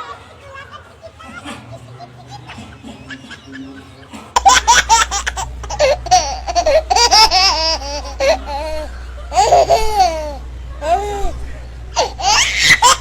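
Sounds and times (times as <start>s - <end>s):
high-pitched giggling: 0.0s - 13.0s.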